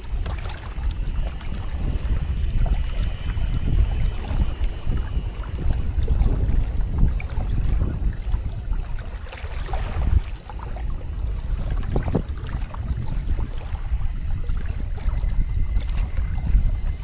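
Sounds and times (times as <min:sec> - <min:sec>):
water lapping against kayak hull: 0:00.0 - 0:17.0
wind rumbling on microphone: 0:00.0 - 0:17.0.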